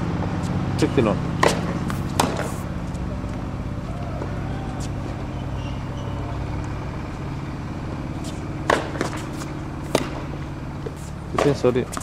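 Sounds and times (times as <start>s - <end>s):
racket hitting tennis ball: 0.2s - 12.0s.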